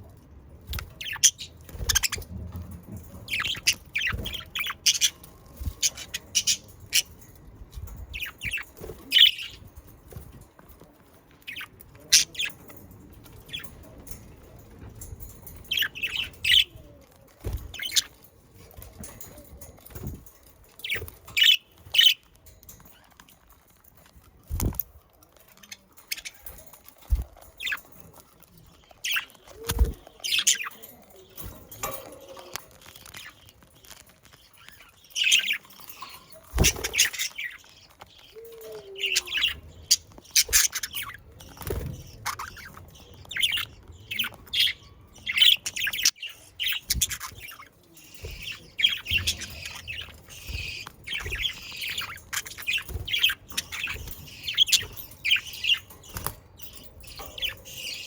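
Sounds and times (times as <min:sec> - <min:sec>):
budgerigars chirping and squawking: 0:00.6 - 0:10.4, 0:11.4 - 0:24.9, 0:25.5 - 0:58.0.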